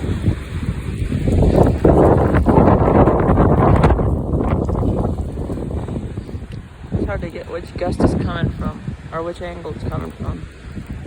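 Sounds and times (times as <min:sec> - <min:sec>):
gusty wind buffeting microphone: 0:00.0 - 0:11.0.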